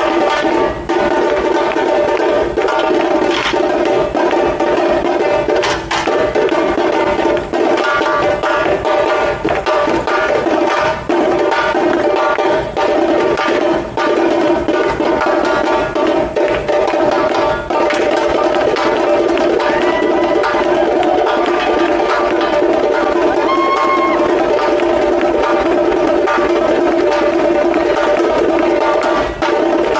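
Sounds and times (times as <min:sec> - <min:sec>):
samba percussion band: 0:00.0 - 0:29.9.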